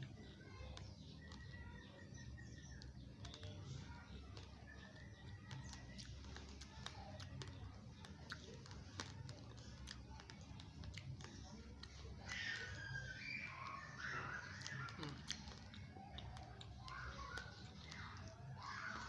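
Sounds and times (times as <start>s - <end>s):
dry rice being chewed: 0.0s - 19.0s
low background hum: 0.0s - 19.0s.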